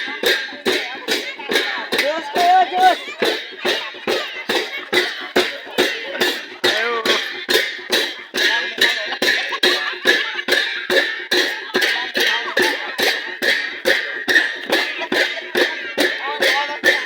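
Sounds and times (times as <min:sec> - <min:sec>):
drum strokes: 0:00.0 - 0:17.0
voices: 0:00.0 - 0:17.0
cymbals clashing: 0:03.2 - 0:17.0.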